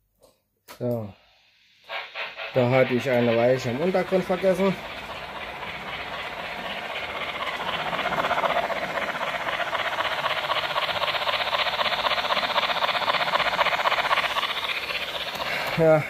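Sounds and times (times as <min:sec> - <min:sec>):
model train running on track: 0:01.8 - 0:16.0.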